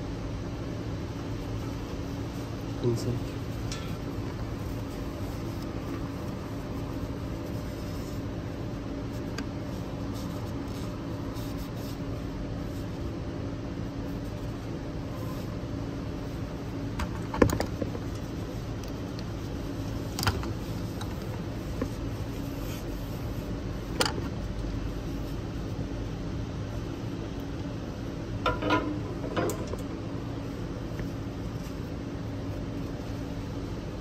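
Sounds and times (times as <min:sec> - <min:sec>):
workshop machine hum: 0:00.0 - 0:34.0.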